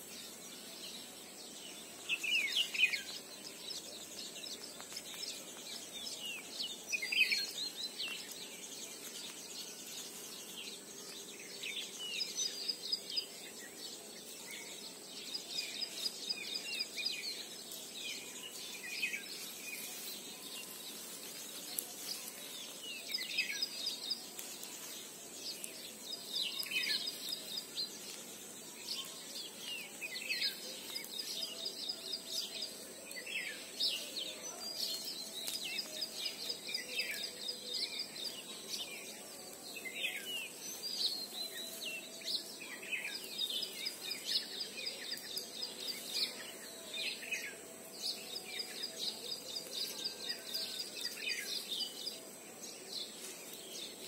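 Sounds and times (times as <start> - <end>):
birds chirping and trilling: 0.0 - 54.0
steady outdoor hiss: 0.0 - 54.0.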